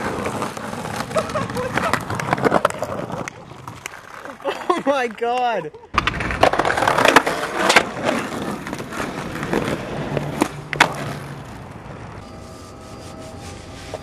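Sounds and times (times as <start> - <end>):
skateboard clacking on ground: 0.0 - 11.8
skateboard wheels rolling on pavement: 0.0 - 14.0.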